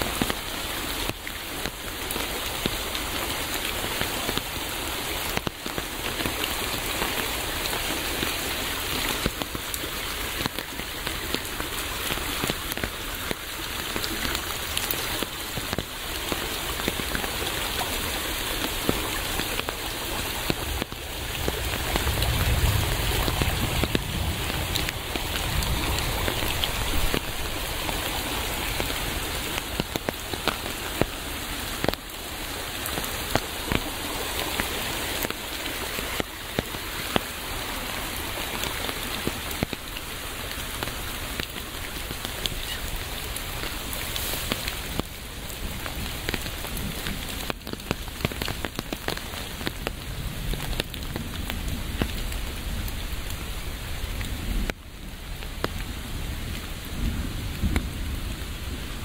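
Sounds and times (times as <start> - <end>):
rain drops ticking on a surface: 0.0 - 59.0.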